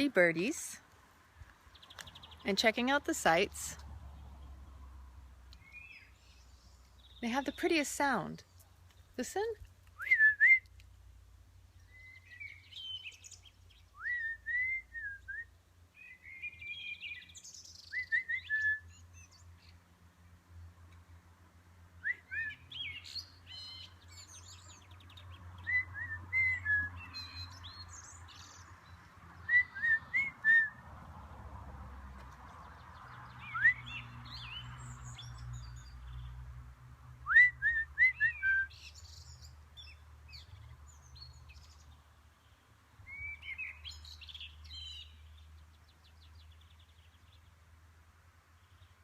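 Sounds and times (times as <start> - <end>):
songbirds singing: 0.0 - 31.5, 32.1 - 49.0.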